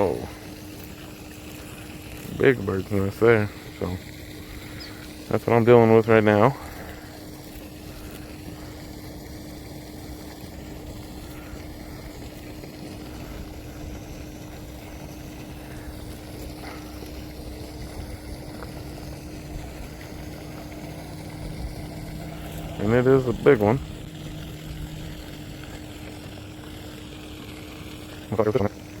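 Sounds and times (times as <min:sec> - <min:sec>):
fountain water splashing: 0:00.0 - 0:29.0
low hum: 0:00.0 - 0:29.0.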